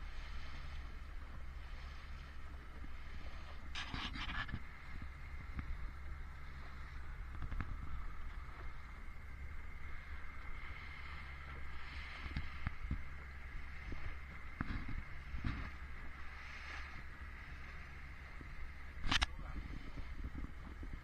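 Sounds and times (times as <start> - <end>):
outboard motor running: 0.0 - 21.0
wind on microphone: 0.0 - 21.0.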